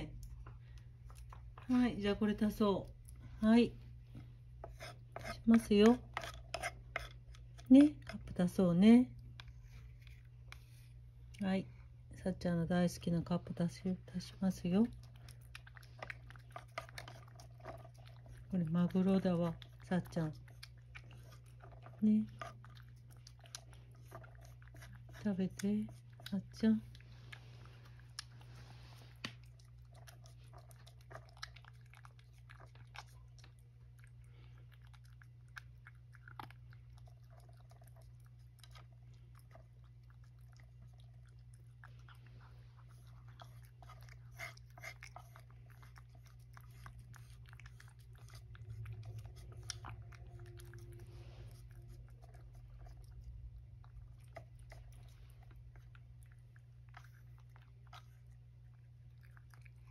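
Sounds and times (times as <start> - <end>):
cat licking and chewing: 0.0 - 59.9.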